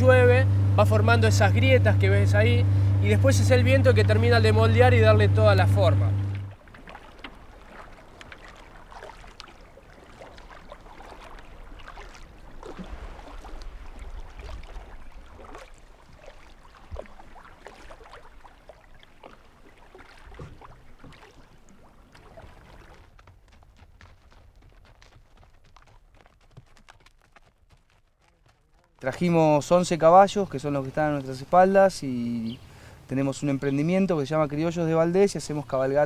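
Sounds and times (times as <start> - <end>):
water lapping and trickling: 0.0 - 36.0
kayak paddle splashing: 0.4 - 26.8, 27.4 - 33.1.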